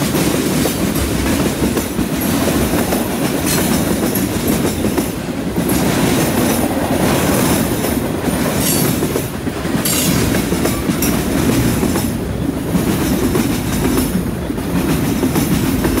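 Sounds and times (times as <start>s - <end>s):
train wheels rumbling on rail: 0.0s - 16.0s
wheels clacking over track: 0.0s - 16.0s.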